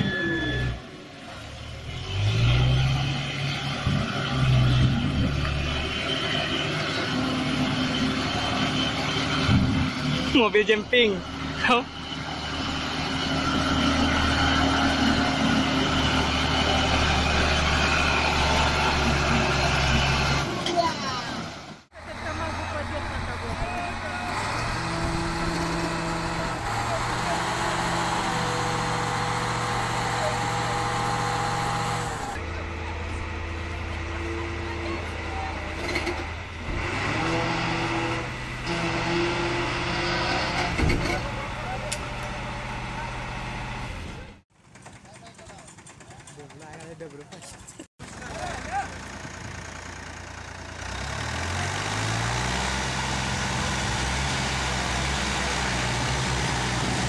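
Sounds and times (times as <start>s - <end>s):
diesel truck engine under load: 0.0s - 57.0s.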